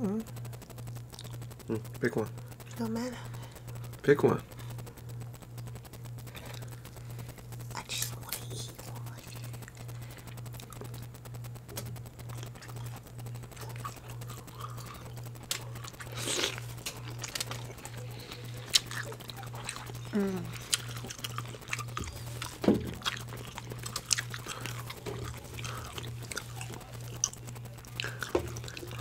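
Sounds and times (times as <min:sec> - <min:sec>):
steady low hum: 0:00.0 - 0:29.0
crab shell cracking: 0:03.4 - 0:29.0.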